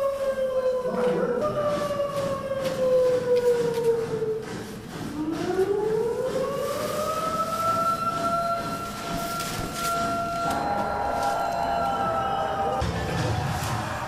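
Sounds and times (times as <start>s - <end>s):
air raid siren wailing: 0.0s - 14.0s.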